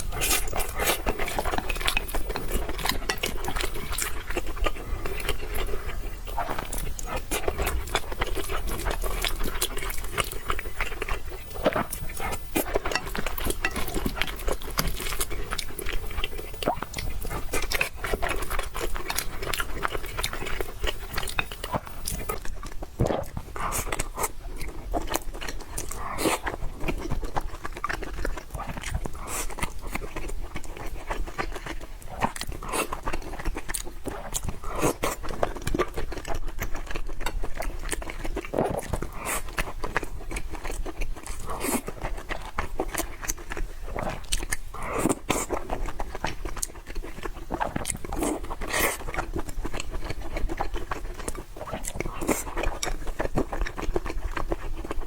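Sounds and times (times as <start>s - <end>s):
chewing with mouth clicks: 0.0s - 55.0s.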